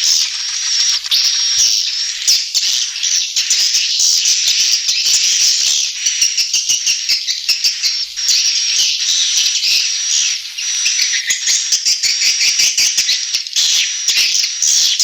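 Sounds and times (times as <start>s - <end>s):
swiftlets chirping and twittering: 0.0s - 15.0s.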